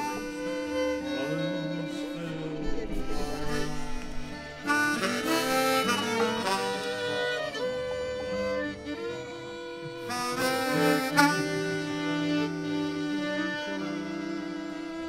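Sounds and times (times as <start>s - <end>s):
strummed acoustic guitar: 0.0s - 13.6s
fiddles: 0.0s - 15.0s
harmonica melody: 0.0s - 15.0s.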